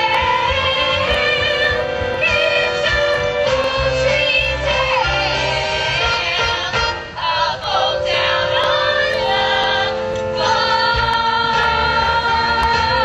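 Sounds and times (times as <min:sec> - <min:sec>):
group singing show tune: 0:00.0 - 0:13.0
instrumental accompaniment: 0:00.0 - 0:13.0.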